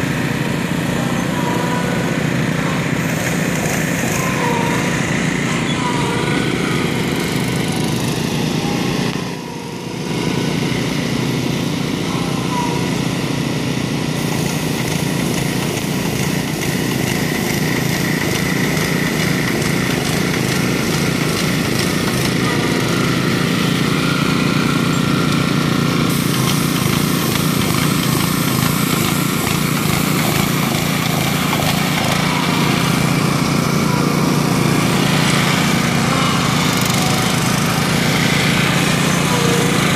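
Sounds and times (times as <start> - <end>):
small engines running: 0.0 - 39.9.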